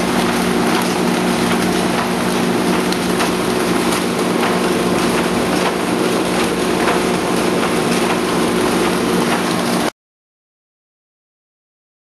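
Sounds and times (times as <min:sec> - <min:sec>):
machine hum and rush: 0:00.0 - 0:09.9.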